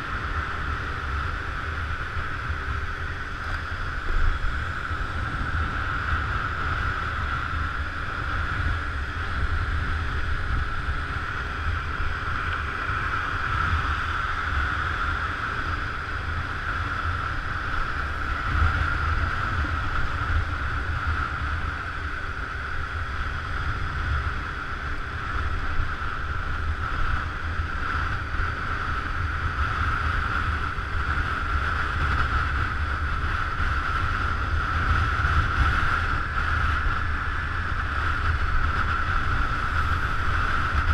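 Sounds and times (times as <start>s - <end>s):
constant high whine: 0.0s - 40.9s
motor scooter riding: 0.0s - 40.9s
wind rumble on microphone: 0.0s - 40.9s.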